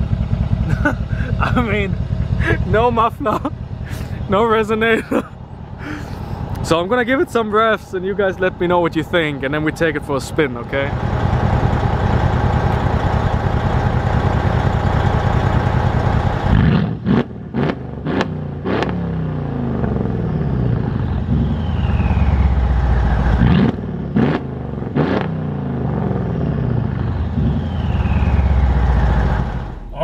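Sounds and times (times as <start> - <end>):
falling turbo whine: 0.0 - 18.0, 18.7 - 30.0
car engine revving: 0.0 - 30.0.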